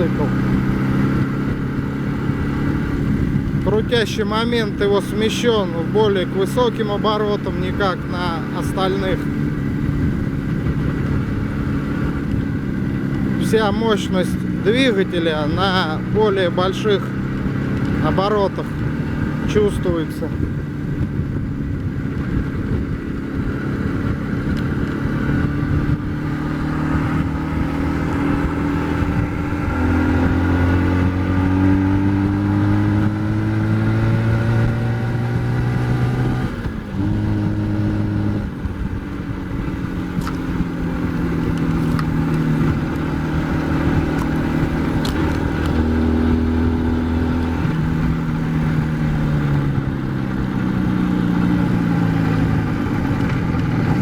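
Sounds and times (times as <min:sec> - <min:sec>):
motorcycle engine changing gears: 0:00.0 - 0:54.0.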